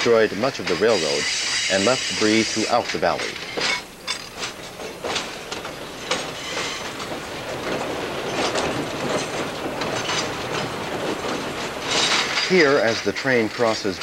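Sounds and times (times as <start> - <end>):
train wheels rumbling on rail: 0.0 - 14.0
wheels clicking and clacking: 0.0 - 14.0.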